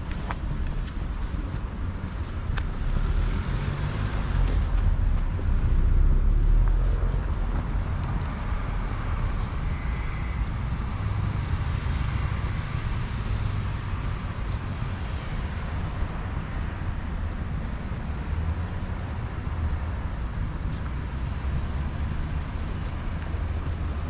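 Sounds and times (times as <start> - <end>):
city traffic rumble: 0.0 - 24.0.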